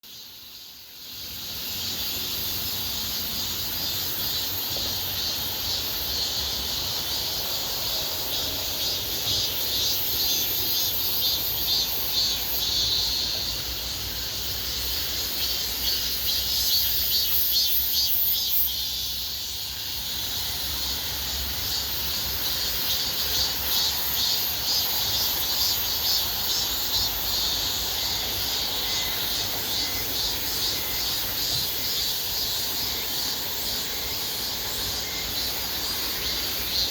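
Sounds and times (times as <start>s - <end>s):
cicadas buzzing: 0.0s - 36.9s
crickets trilling: 0.0s - 36.9s.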